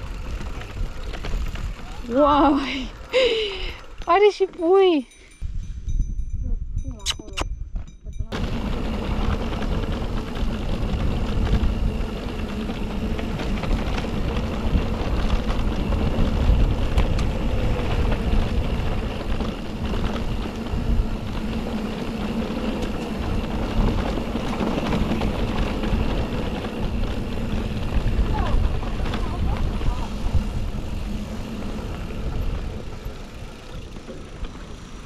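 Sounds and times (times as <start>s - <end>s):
bike tyres rolling on dirt trail: 0.0s - 5.0s, 8.2s - 35.0s
wind rushing over microphone: 5.3s - 33.6s.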